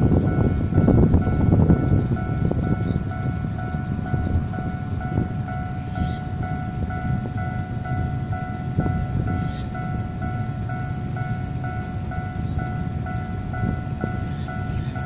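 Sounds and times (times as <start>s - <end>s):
level crossing alarm beeping: 0.0s - 15.0s
road traffic rumble: 0.0s - 15.0s.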